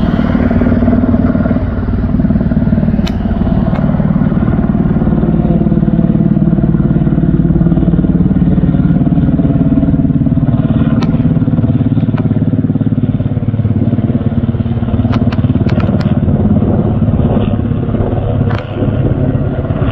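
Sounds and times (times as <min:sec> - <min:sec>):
helicopter engine drone: 0:00.0 - 0:19.9
helicopter rotor beat: 0:00.0 - 0:19.9.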